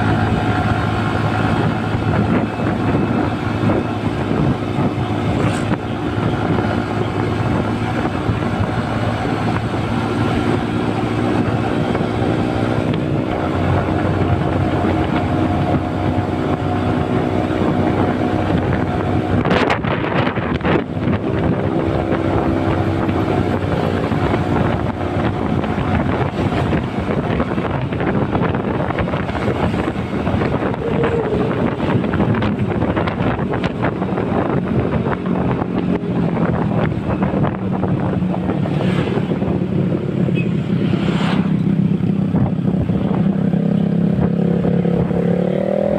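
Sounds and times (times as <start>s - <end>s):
motorcycle engine running: 0.0s - 45.9s
wind rushing over microphone: 0.0s - 45.9s.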